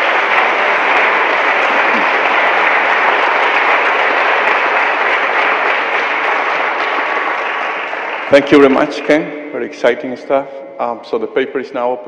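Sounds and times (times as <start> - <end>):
large audience applauding: 0.0 - 10.1.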